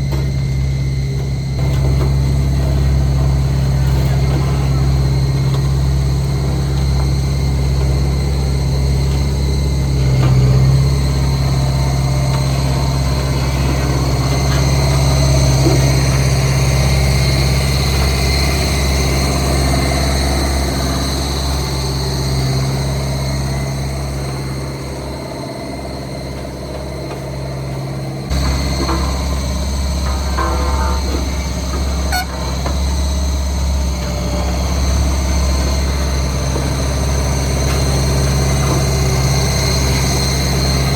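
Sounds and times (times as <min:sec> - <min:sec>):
heavy diesel engine humming: 0:00.0 - 0:40.9.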